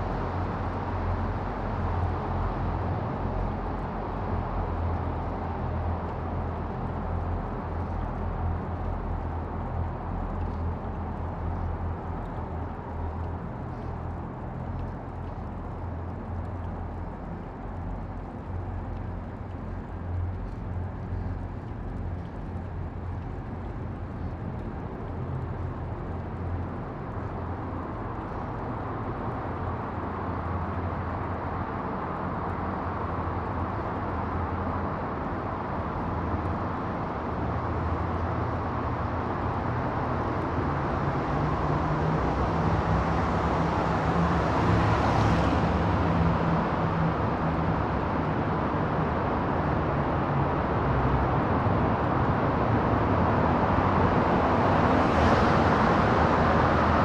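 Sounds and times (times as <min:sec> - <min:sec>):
low engine rumble: 0:00.0 - 0:55.0.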